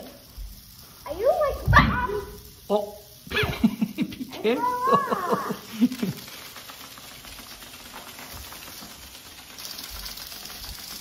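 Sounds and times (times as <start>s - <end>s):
toy robots skittering on wooden floor: 0.0s - 11.0s.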